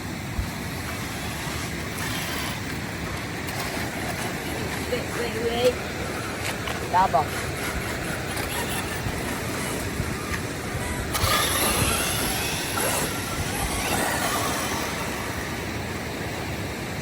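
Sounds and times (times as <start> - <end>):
rc buggy running on wet ground: 0.8 - 16.5.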